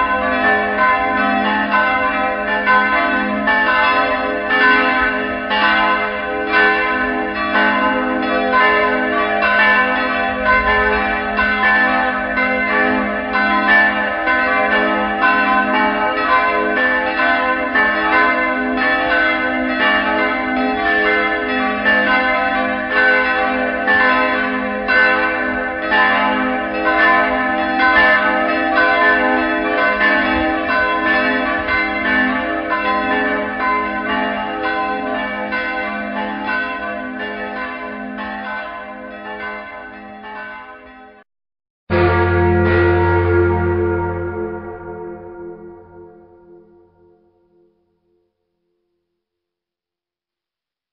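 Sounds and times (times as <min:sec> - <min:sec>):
church bells pealing: 0:00.0 - 0:41.2, 0:41.9 - 0:47.2.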